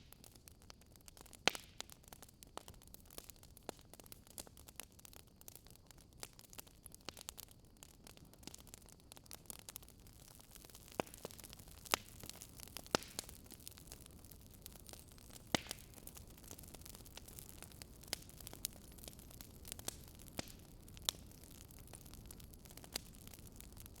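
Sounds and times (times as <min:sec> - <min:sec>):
faint steady hiss: 0:00.0 - 0:24.0
wood fire crackling and popping: 0:00.0 - 0:24.0.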